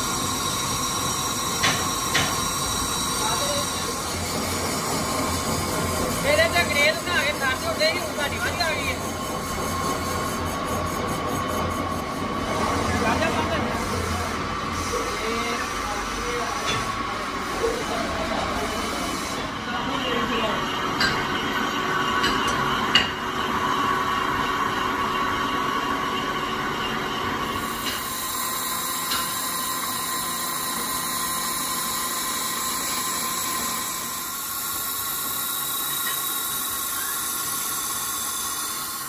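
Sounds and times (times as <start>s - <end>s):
grinding wheel whine: 0.0s - 39.0s.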